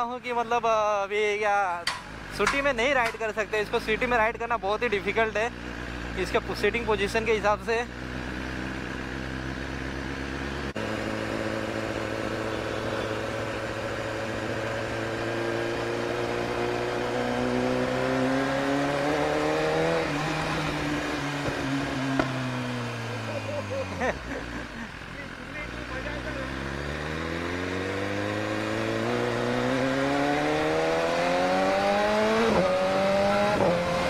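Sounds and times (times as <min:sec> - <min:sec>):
motorcycle engine revving: 0:01.8 - 0:34.0.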